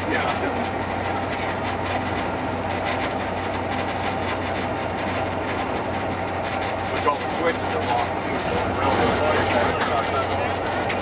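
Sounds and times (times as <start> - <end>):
diesel locomotive engine running: 0.0 - 11.0
wheels rumbling on rails: 0.0 - 11.0.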